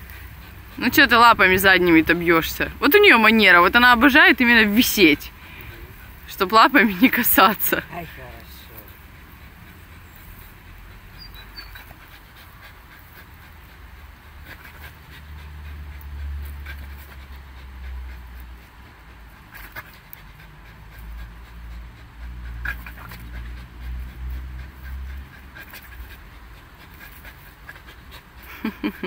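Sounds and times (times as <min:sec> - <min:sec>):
dog panting: 0:00.0 - 0:29.0.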